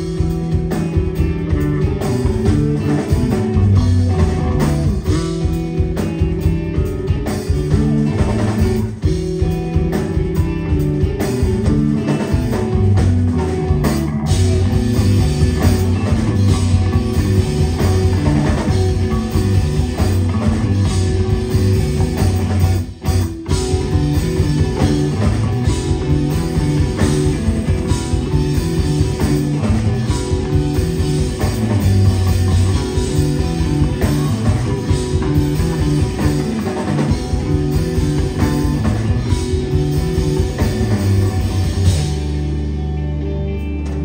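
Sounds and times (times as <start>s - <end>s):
drum kit: 0.0s - 44.0s
electric bass line: 0.0s - 44.0s
electric guitar: 0.0s - 44.0s.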